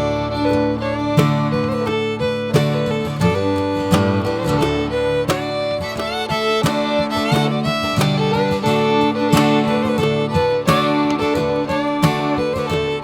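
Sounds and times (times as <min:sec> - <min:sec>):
fiddle playing sliding melody: 0:00.0 - 0:13.0
plucked acoustic guitar: 0:00.0 - 0:13.0.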